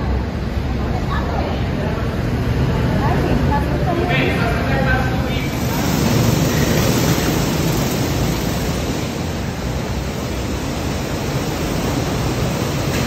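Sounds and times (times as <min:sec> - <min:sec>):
go-karts rushing noise: 0:00.0 - 0:13.0.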